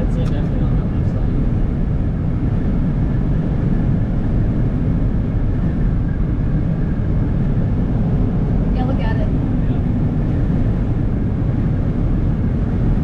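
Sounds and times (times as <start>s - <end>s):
car road rumble from inside: 0.0s - 13.0s.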